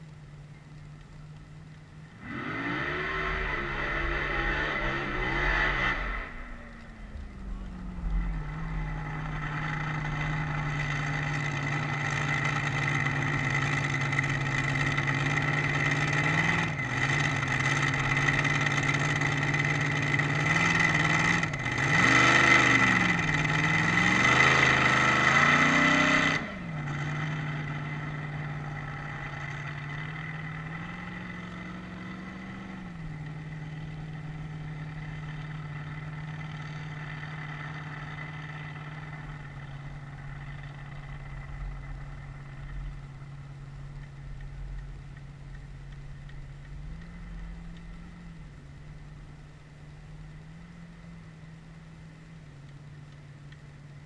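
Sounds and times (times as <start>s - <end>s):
high engine whine: 0.0s - 54.0s
vehicle engine idling and revving: 0.0s - 54.0s.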